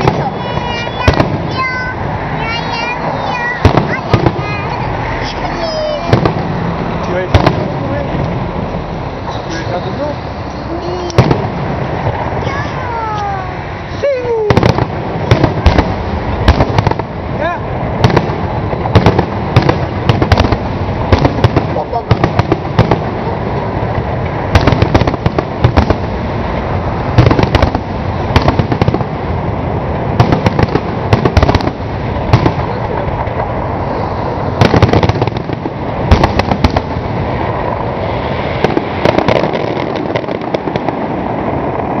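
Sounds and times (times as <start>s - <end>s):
fireworks bursting with sharp bangs: 0.0s - 42.0s
noisy rumble: 0.0s - 42.0s.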